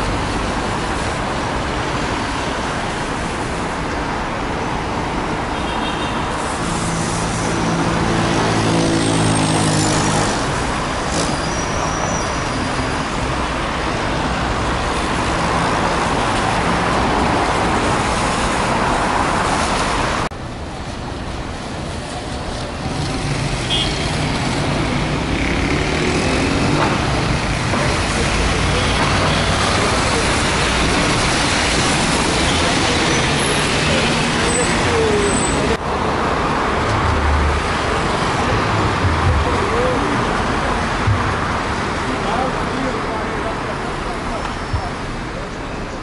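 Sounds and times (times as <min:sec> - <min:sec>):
traffic tyres on wet road: 0:00.0 - 0:46.0.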